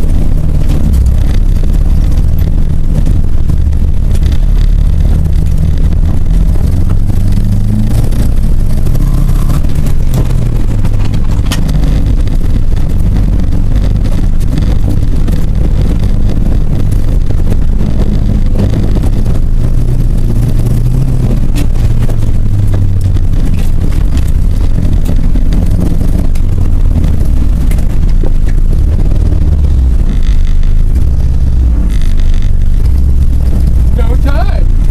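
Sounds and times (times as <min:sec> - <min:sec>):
car engine misfiring: 0:00.0 - 0:34.9.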